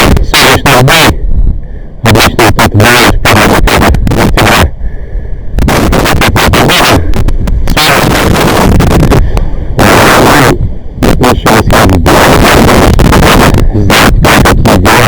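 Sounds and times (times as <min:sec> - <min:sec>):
distorted crackling interference: 0:00.0 - 0:01.2, 0:02.0 - 0:04.8, 0:05.6 - 0:15.0.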